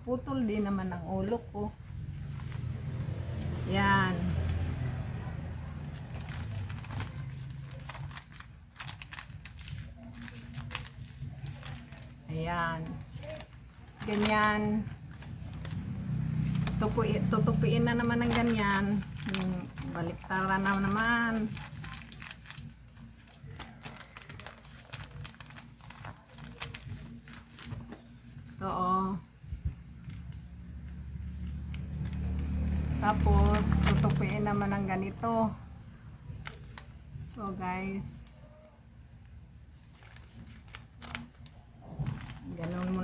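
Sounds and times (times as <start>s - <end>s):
paper crinkling being folded: 0.3s - 35.5s, 36.2s - 43.0s.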